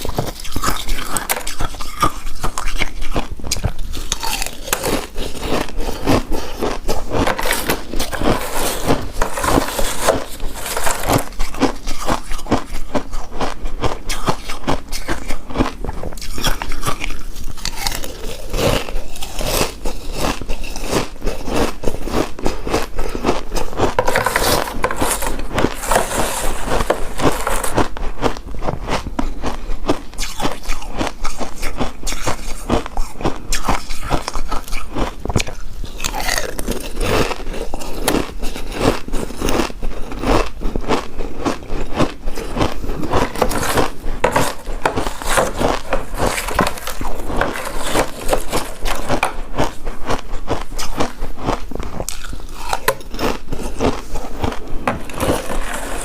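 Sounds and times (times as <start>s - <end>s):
person chewing rice cake: 0.0s - 56.0s.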